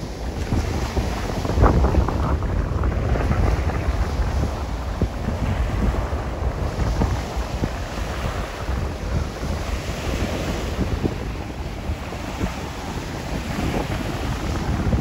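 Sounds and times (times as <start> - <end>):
choppy waves: 0.0 - 15.0
gusty wind on microphone: 0.0 - 15.0.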